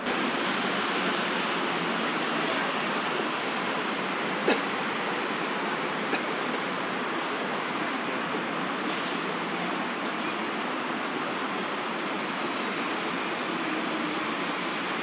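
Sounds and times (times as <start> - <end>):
distant city traffic: 0.0 - 15.0.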